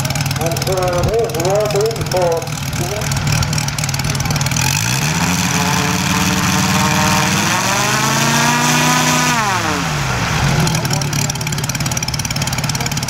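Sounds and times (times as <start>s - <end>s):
model airplane engine revving: 0.0s - 13.0s.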